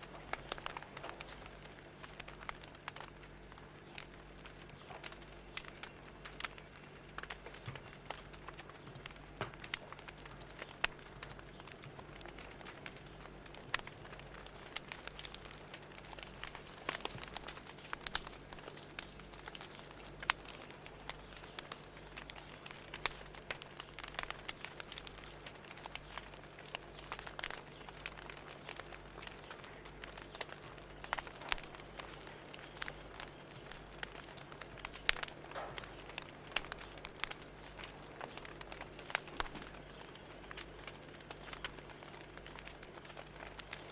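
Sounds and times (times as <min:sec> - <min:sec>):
fire crackling and popping: 0:00.0 - 0:43.9
soft steady hiss: 0:00.0 - 0:43.9.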